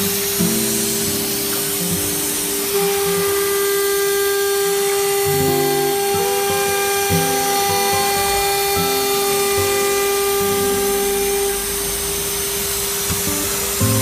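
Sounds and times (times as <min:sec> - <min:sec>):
router spindle high whine: 0:00.0 - 0:14.0.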